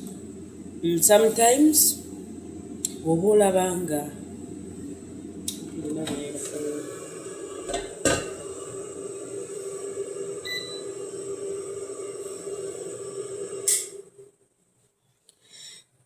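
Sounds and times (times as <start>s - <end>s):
steady hum: 0.0s - 14.4s.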